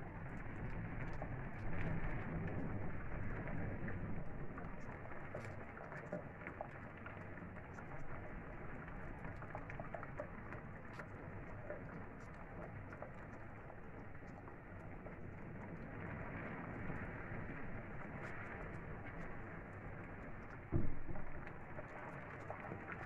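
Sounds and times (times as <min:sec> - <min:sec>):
heavy rain: 0:00.0 - 0:09.9, 0:11.6 - 0:23.0
raindrops ticking on window glass: 0:00.0 - 0:23.0.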